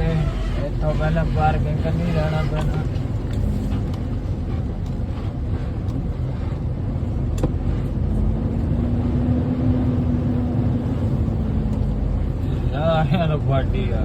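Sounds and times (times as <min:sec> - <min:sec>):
truck engine rumbling: 0:00.0 - 0:14.0.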